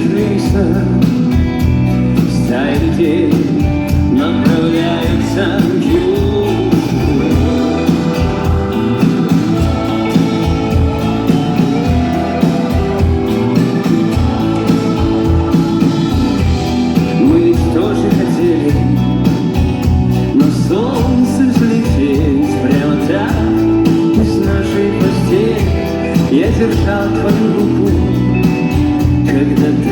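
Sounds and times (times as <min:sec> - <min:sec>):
drums steady beat: 0:00.0 - 0:29.9
electric guitars: 0:00.0 - 0:29.9.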